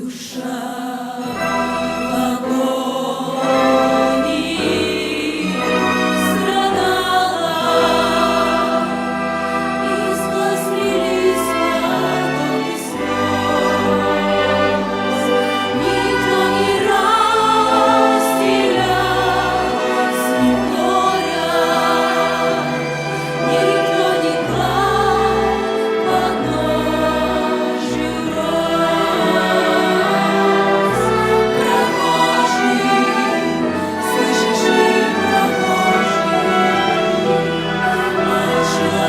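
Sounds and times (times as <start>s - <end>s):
choir singing a hymn: 0.0s - 39.0s
instrumental accompaniment: 1.2s - 39.0s.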